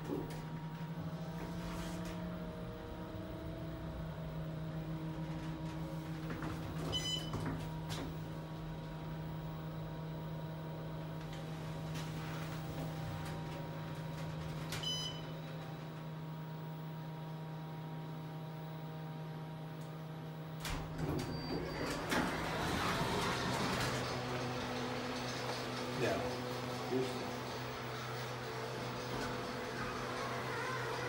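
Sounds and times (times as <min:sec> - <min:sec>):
elevator hum: 0:00.0 - 0:31.0.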